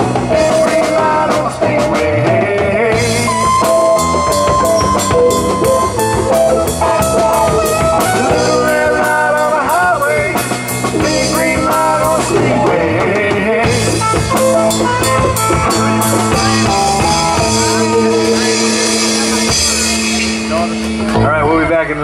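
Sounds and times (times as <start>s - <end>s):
blues-rock band playing: 0.0s - 22.0s
drums keeping steady beat: 0.0s - 22.0s.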